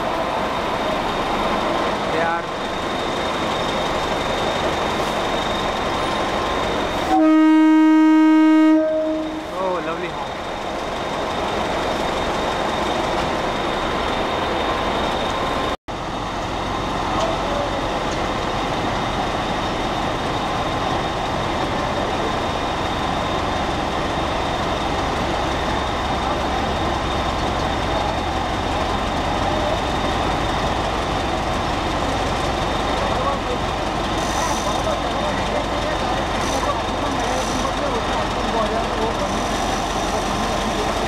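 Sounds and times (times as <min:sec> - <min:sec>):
diesel locomotive engine hum: 0:00.0 - 0:41.0.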